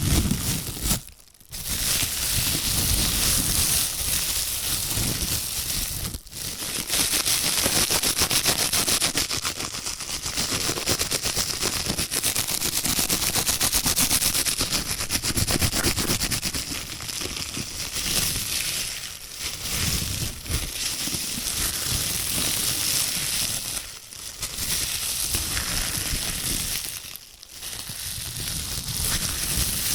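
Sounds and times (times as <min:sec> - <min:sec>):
plastic gloves crinkling: 0:00.0 - 0:29.9.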